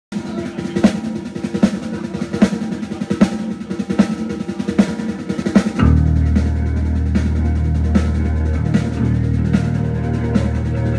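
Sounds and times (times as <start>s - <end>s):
drum kit playing a steady beat: 0.1s - 10.9s.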